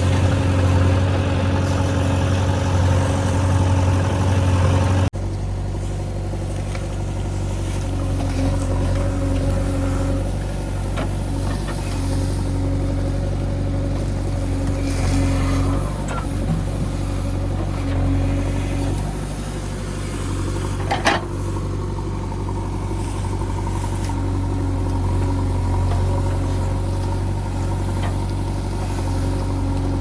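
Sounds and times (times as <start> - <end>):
diesel engine running: 0.0 - 30.0
quieter steady engine: 0.0 - 30.0.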